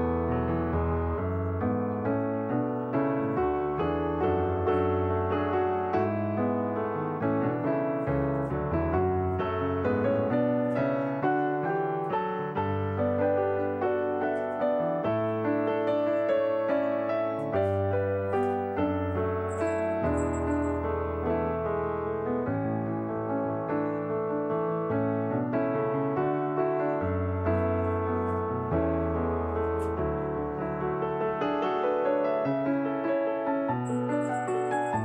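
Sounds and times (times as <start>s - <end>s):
piano melody: 0.0s - 35.0s.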